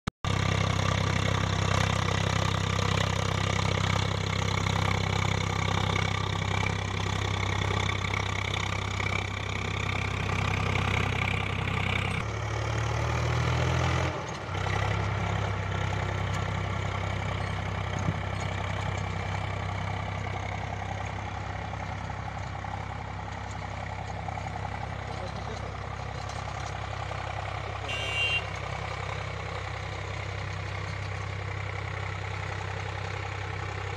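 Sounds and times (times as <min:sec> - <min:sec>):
tractor diesel engine under load: 0:00.2 - 0:33.9.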